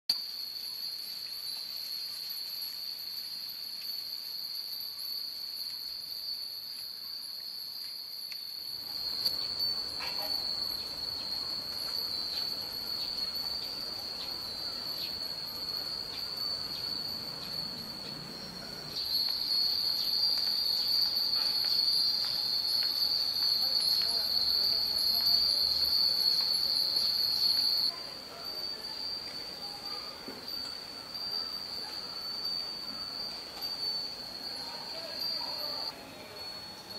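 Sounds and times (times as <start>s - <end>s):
high insect drone: 0.1s - 36.9s
wind chimes clinking: 0.2s - 36.9s.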